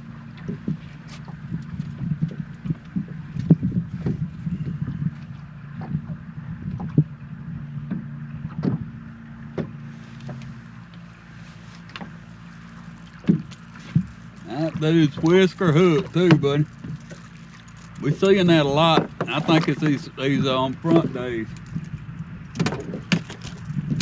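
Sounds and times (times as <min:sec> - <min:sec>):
knocks and clicks on boat: 0:00.0 - 0:24.0
steady low hum: 0:00.0 - 0:24.0.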